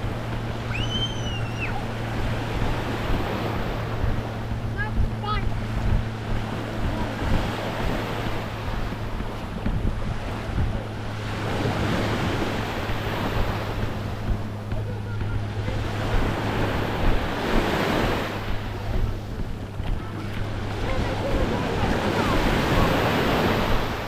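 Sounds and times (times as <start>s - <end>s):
waves washing onto a beach: 0.0s - 24.0s
wind buffeting the microphone: 0.0s - 24.0s.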